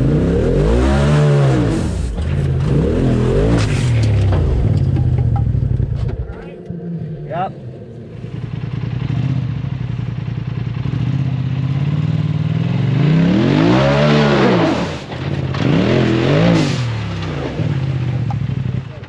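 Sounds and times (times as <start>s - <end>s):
engine idling and revving: 0.0s - 19.0s.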